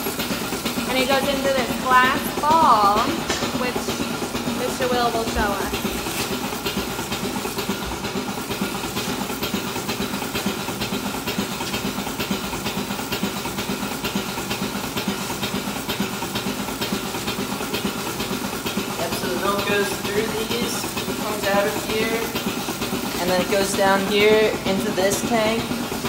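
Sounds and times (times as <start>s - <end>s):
milking machine vacuum hiss: 0.0s - 26.0s.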